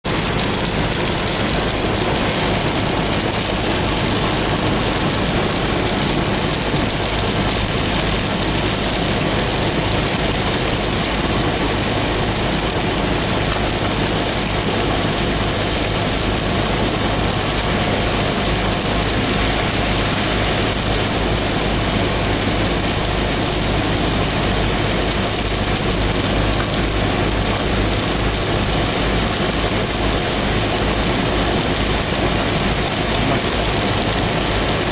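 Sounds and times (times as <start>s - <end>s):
car engine and tyres on wet road: 0.0s - 34.9s
constant low rumble: 0.0s - 34.9s
rain hitting windscreen: 0.0s - 34.9s.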